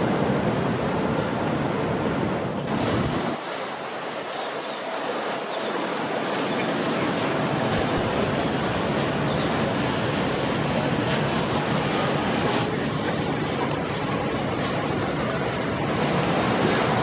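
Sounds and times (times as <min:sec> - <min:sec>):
outboard engines running: 0:00.0 - 0:17.0
water wash: 0:00.0 - 0:17.0
wind: 0:00.0 - 0:17.0.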